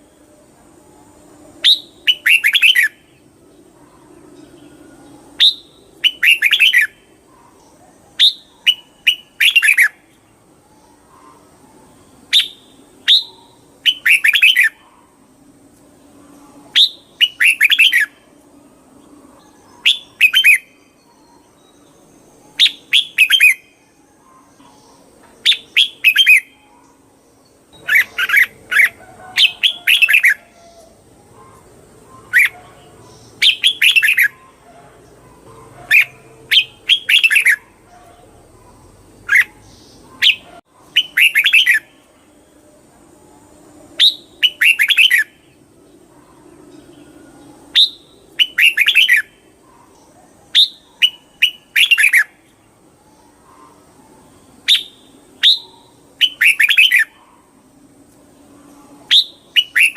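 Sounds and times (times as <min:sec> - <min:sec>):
bird singing: 0:00.0 - 0:59.9
faint high whine: 0:00.0 - 0:59.9.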